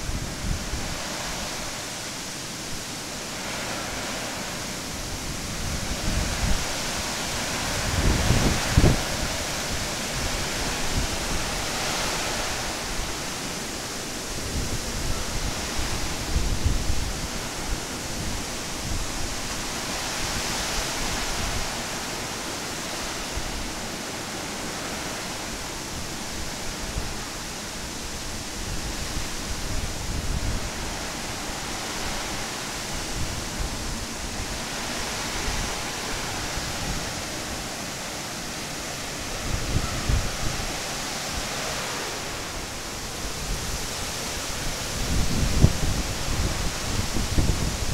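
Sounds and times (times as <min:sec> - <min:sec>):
wind gusts rumbling on microphone: 0:00.0 - 0:47.9
wind rushing through trees: 0:00.0 - 0:47.9.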